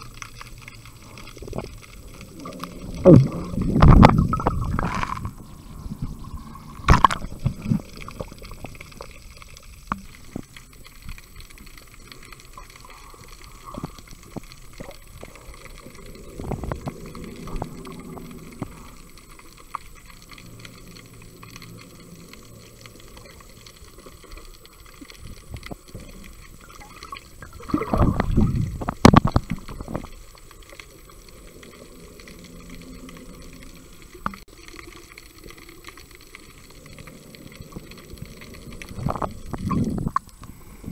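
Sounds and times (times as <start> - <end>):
underwater sloshing and bubbling: 0.0 - 40.9
water splashing: 0.0 - 40.9.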